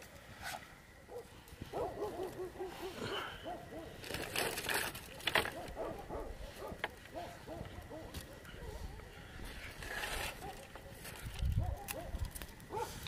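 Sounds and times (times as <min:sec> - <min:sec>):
twig fire crackling: 0:00.0 - 0:13.0
distant dogs barking: 0:01.0 - 0:13.0.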